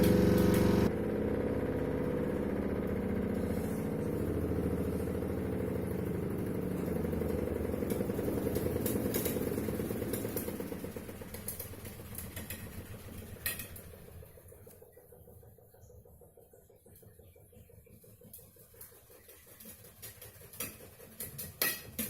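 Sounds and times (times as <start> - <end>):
spin-dryer motor hum: 0.0 - 22.0.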